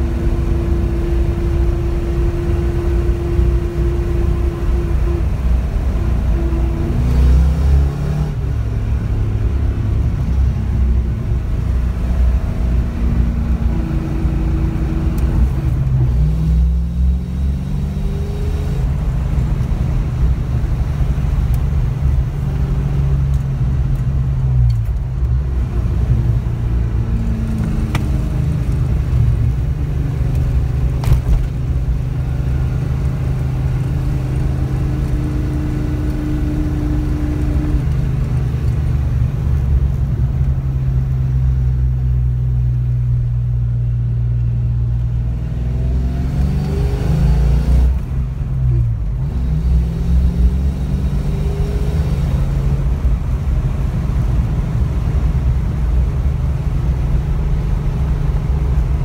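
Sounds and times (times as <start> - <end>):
car engine running inside cabin: 0.0 - 59.0.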